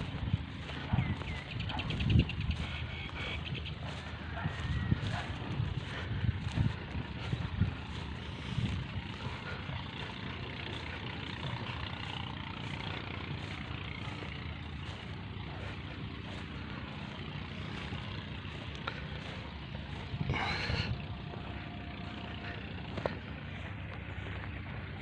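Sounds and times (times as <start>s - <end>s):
constant background noise: 0.0s - 25.0s
engine-like drone: 0.0s - 25.0s.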